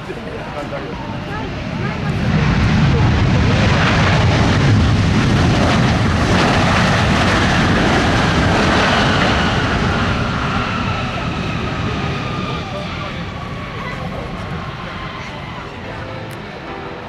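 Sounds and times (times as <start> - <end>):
jet engine rumble: 0.0 - 15.8
high jet engine whine: 0.0 - 16.9.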